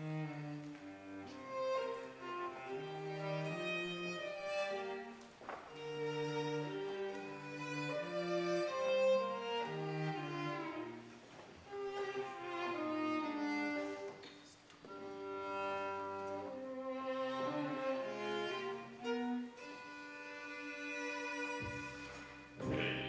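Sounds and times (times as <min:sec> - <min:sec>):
violin and cello playing: 0:00.0 - 0:23.0.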